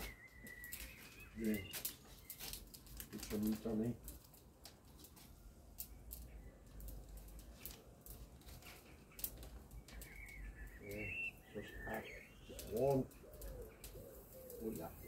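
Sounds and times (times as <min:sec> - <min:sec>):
bird chirping: 0:00.0 - 0:04.0, 0:05.8 - 0:15.0
faint grill clicks and crackles: 0:00.0 - 0:15.0.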